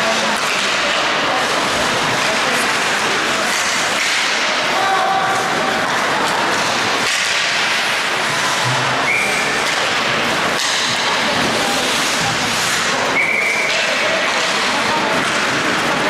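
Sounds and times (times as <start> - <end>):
rink crowd din: 0.0 - 16.0
skates scraping ice: 0.0 - 16.0
sticks hitting puck: 0.0 - 16.0.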